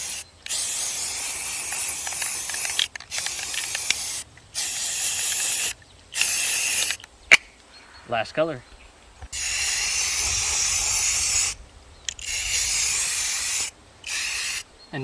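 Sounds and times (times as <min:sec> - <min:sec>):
aerosol spray can hissing: 0:00.0 - 0:07.0, 0:09.4 - 0:14.7.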